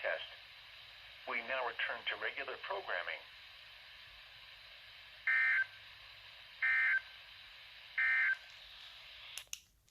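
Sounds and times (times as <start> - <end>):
faint radio hiss: 0.0 - 9.9.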